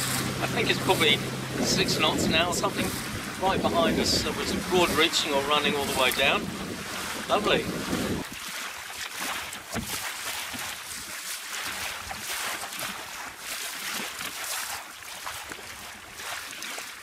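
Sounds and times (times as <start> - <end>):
water splashing along boat hull: 0.0 - 17.0
wind: 0.0 - 17.0.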